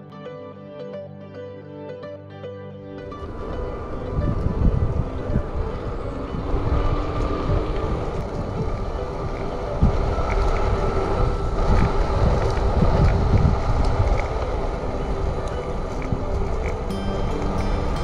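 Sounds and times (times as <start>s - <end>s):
road rolling noise: 3.0s - 18.0s
wind buffeting microphone: 3.1s - 18.0s.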